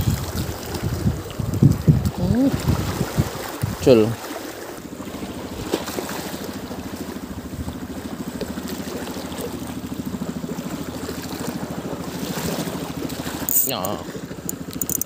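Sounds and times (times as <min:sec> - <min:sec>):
boat engine puttering: 0:00.0 - 0:15.0.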